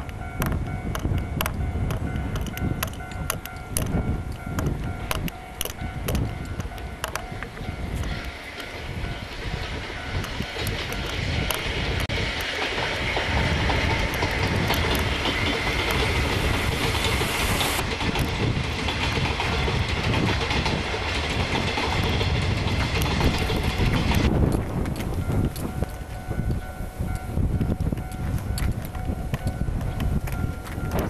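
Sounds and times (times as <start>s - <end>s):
freight train rolling past: 0.0s - 31.0s
wheels clicking over rail joints: 0.0s - 31.0s.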